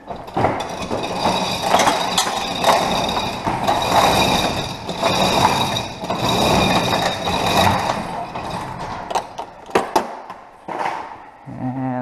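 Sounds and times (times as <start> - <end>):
door rollers rattling on metal tracks: 0.0 - 11.4.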